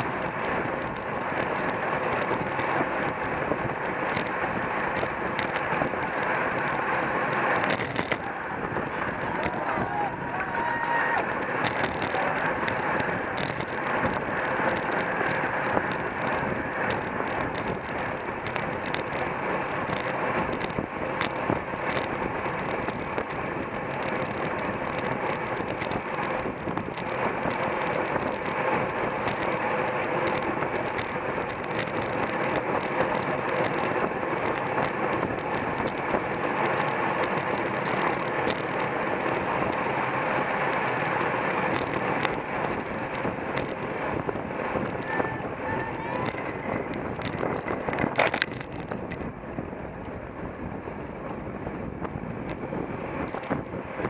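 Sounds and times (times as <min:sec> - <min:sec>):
clicks and rattles: 0:00.0 - 0:51.4, 0:53.2 - 0:54.0
bicycle tyre and chain noise: 0:00.0 - 0:54.0.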